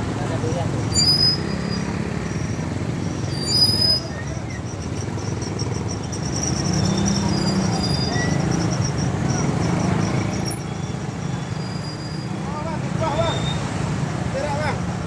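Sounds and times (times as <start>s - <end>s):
street market bustle: 0.0s - 15.0s
traffic noise: 0.0s - 15.0s.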